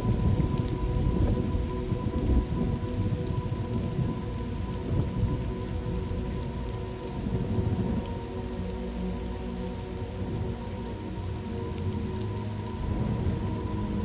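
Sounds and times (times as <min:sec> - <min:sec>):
faint steady tones: 0:00.0 - 0:14.0
steady rain: 0:00.0 - 0:14.0.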